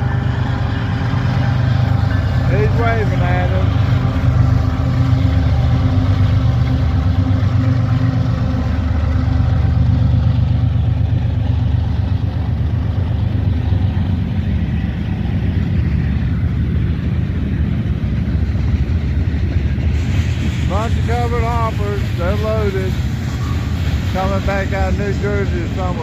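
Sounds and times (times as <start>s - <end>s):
diesel locomotive engines droning: 0.0s - 26.0s
freight cars rumbling past: 0.0s - 26.0s.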